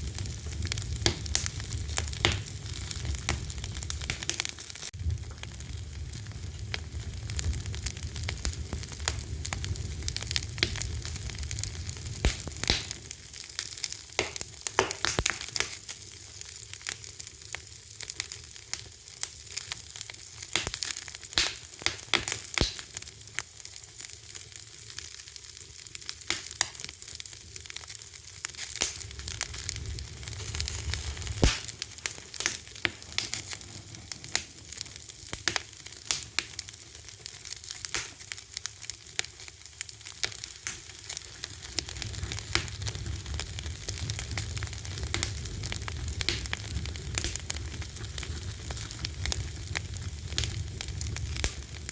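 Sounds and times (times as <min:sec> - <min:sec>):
low rumble of flame: 0:00.0 - 0:18.4, 0:27.0 - 0:51.9
wood fire crackling: 0:00.0 - 0:51.9.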